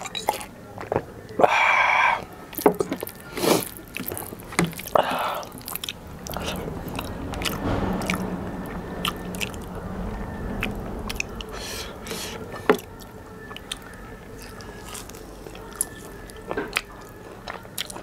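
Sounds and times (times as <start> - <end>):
wet chewing: 0.0 - 8.2, 10.6 - 18.0.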